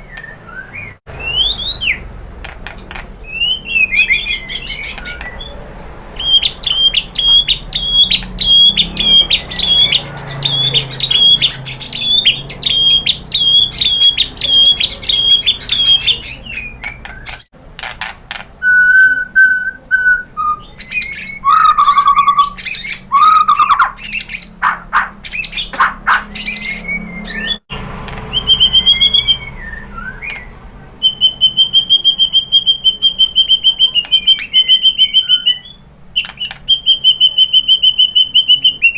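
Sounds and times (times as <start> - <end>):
songbird singing: 0.0 - 17.5, 18.6 - 38.9.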